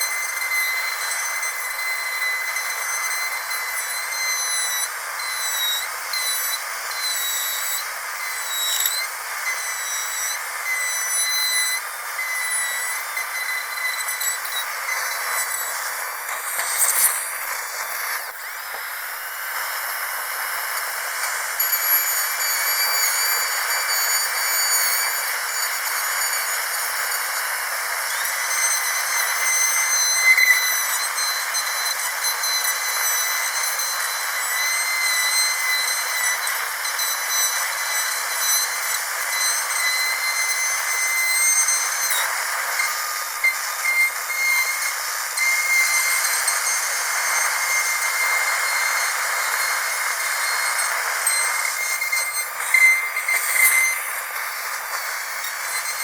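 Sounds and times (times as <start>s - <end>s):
dentist's drill whining: 0.0s - 56.0s.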